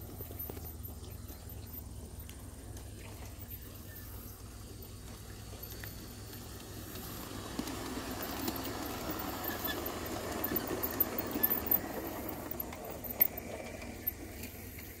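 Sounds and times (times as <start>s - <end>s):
model train wheels rumbling on rail: 0.0s - 15.0s.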